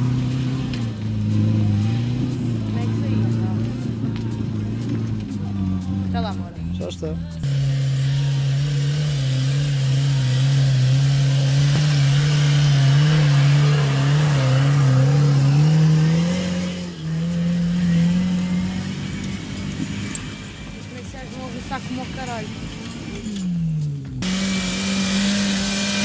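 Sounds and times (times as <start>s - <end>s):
off-road engine at high revs: 0.0s - 26.0s.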